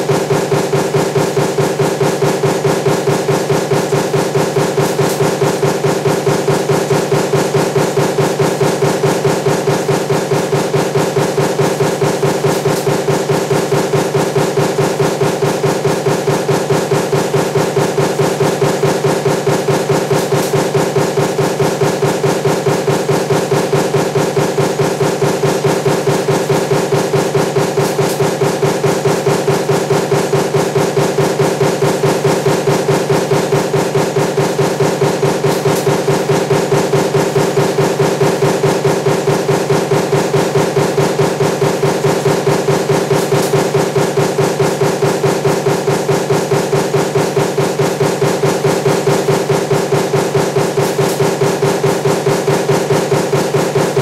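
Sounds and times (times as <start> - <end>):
punch press striking: 0.0 - 54.0
steady machine hum: 0.0 - 54.0.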